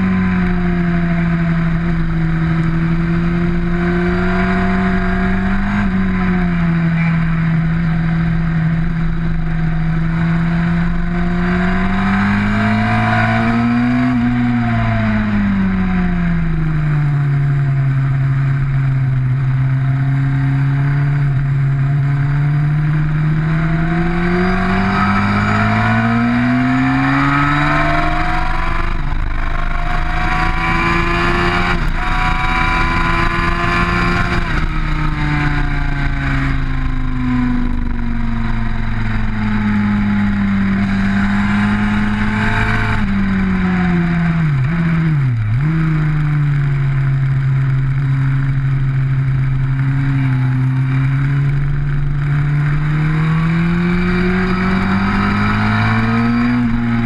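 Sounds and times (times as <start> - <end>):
motorcycle engine at high revs: 0.0 - 57.0
rushing wind: 0.0 - 57.0.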